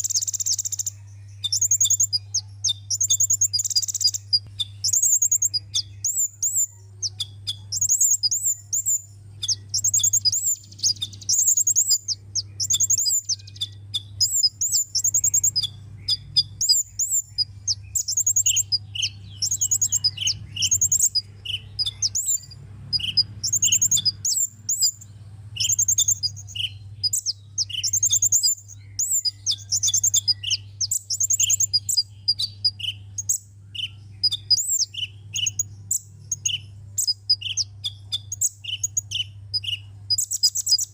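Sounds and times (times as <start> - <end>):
bird chirping song: 0.0 - 40.9
low steady hum: 0.0 - 40.9.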